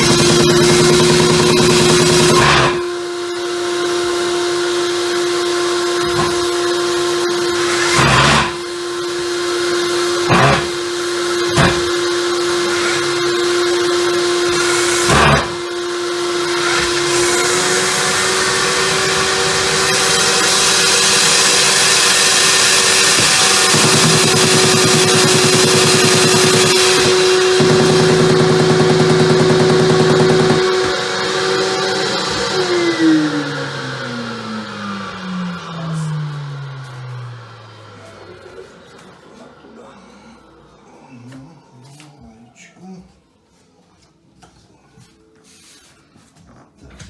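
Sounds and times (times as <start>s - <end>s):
power tool motor running: 0.0s - 39.8s.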